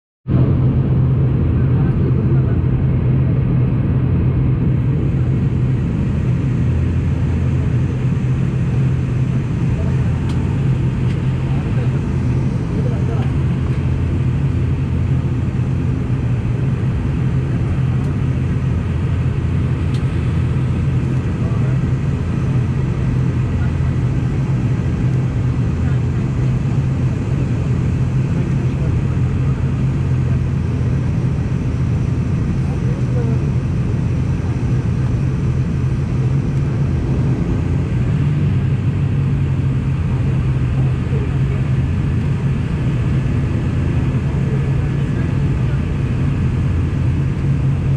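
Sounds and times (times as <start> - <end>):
airliner engines rumbling: 0.3 - 47.9.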